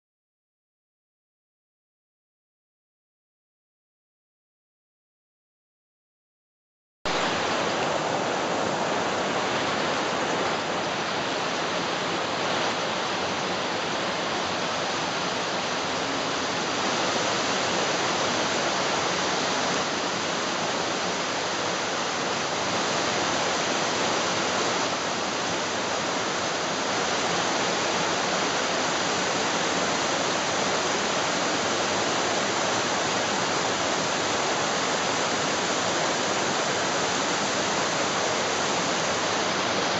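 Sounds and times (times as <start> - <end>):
waterfall rushing: 7.1 - 39.9.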